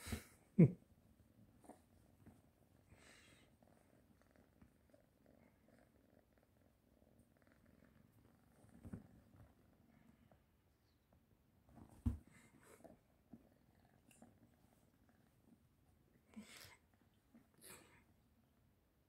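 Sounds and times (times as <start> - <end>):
kitten purring: 1.5 - 11.0, 12.3 - 18.5.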